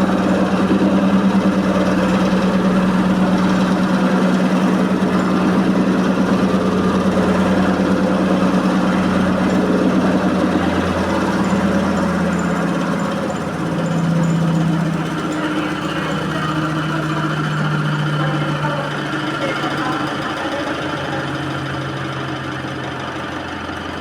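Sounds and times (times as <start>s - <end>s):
rattling vibration: 0.0s - 24.0s
washing machine spinning: 0.0s - 24.0s.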